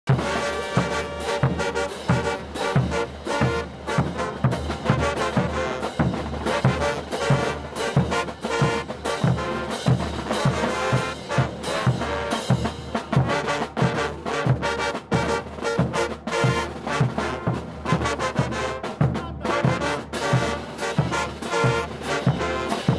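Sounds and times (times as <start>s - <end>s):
brass band playing: 0.1s - 22.9s
steady bass drum beat: 0.1s - 22.9s
trumpets and trombones: 0.1s - 22.9s.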